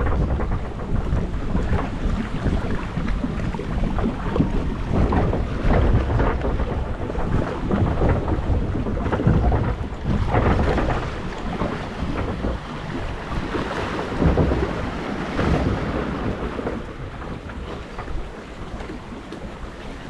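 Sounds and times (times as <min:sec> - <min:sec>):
water rushing and splashing: 0:00.0 - 0:20.0
wind rumbling on microphone: 0:00.0 - 0:20.0.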